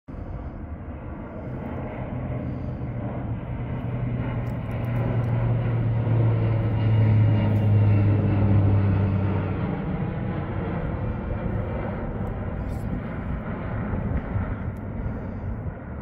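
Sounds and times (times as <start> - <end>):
airplane engines droning overhead: 0.1 - 16.0.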